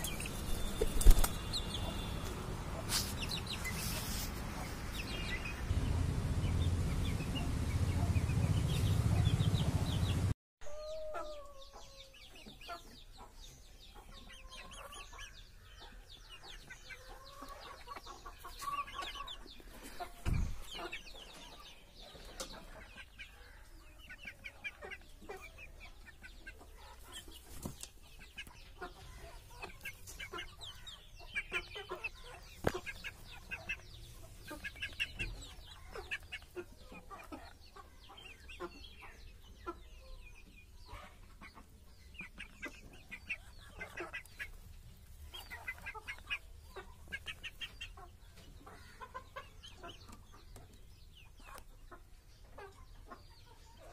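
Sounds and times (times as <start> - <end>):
chicken chirps: 0.0 - 5.7, 7.2 - 53.9
chickens clucking: 0.0 - 53.9.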